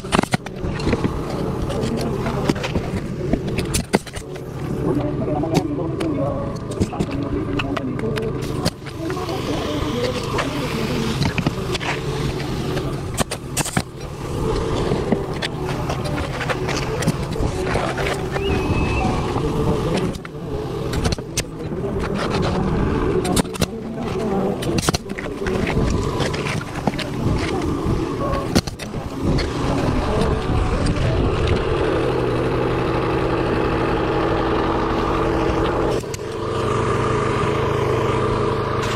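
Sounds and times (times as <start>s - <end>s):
low motor drone: 0.0s - 38.9s
small engine running: 0.0s - 38.9s.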